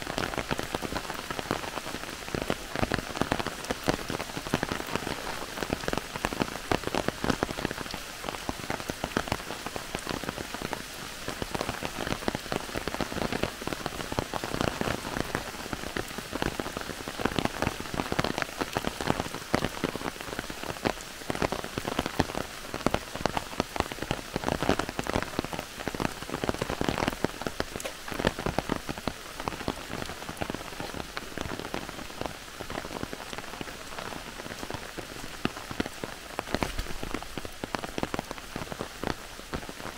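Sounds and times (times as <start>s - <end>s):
heavy rain in forest: 0.0s - 39.9s.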